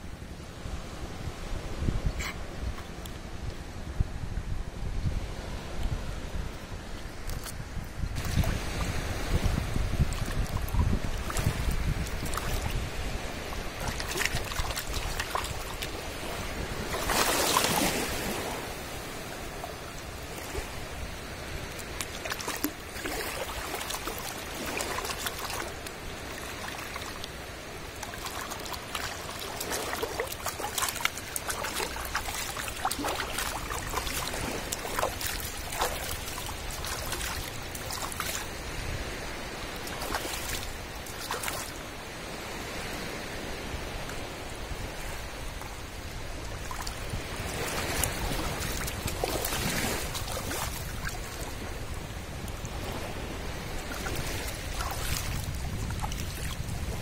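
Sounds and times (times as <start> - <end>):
rush of water: 0.0 - 57.0
seawater splashing and sloshing: 7.2 - 57.0.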